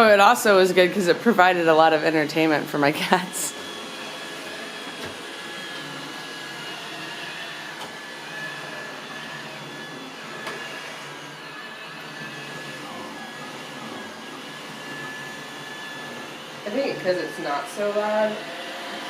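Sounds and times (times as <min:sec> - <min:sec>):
robot vacuum whirring: 0:00.0 - 0:19.0.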